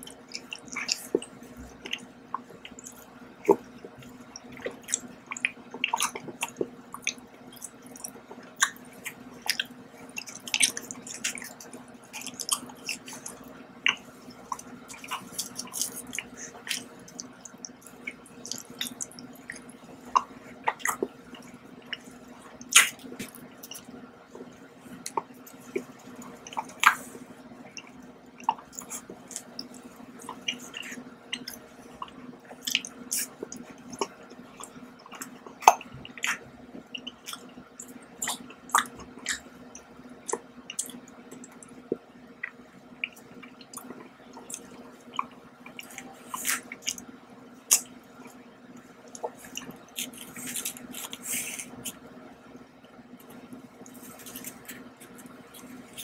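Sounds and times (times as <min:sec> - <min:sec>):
chewing mouth clicks and smacks: 0:00.0 - 0:47.1, 0:47.7 - 0:48.4, 0:49.1 - 0:52.0, 0:53.2 - 0:56.0.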